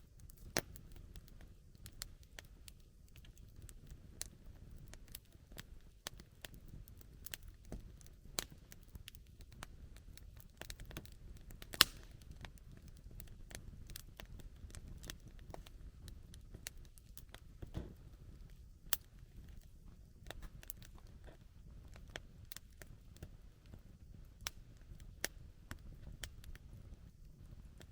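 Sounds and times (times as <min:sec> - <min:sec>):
campfire crackling: 0:00.0 - 0:27.9.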